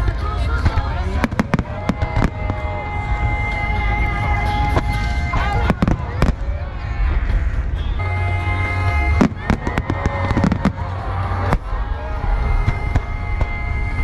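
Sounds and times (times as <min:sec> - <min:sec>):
fireworks bangs: 0:00.0 - 0:14.0
music with held tones: 0:00.0 - 0:14.0
steady low rumble: 0:00.0 - 0:14.0.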